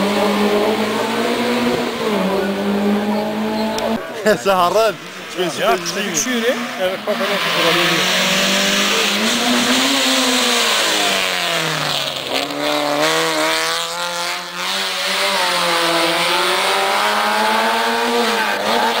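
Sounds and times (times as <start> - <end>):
racing car engine revving: 0.0 - 4.3, 5.1 - 19.0.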